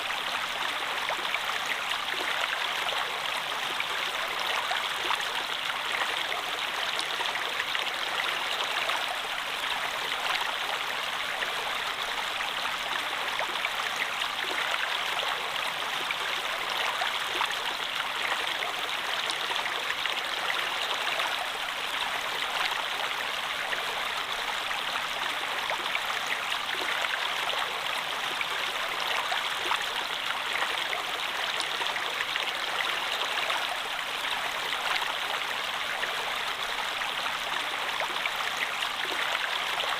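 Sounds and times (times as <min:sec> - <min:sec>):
stream water flowing and splashing: 0:00.0 - 0:39.9.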